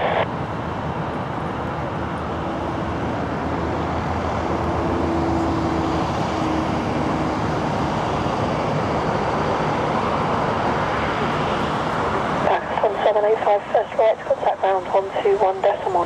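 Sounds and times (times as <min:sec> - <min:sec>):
jet landing rumble: 0:00.0 - 0:16.0.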